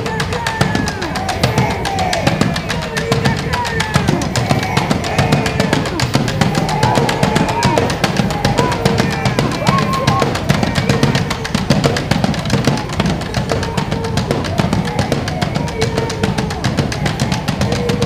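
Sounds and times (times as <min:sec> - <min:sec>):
bass drums: 0:00.0 - 0:18.0
snare drums: 0:00.0 - 0:18.0.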